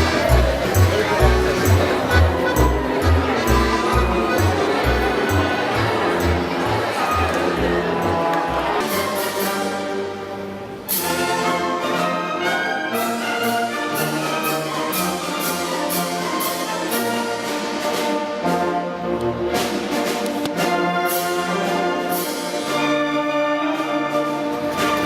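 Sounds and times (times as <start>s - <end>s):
brass-led orchestral music: 0.0s - 25.0s.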